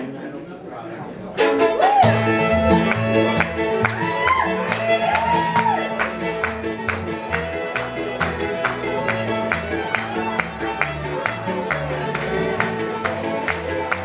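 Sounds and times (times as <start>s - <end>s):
fiddle with sliding notes: 1.4s - 14.0s
strummed acoustic guitar: 1.4s - 14.0s
steady bass line: 2.1s - 14.0s.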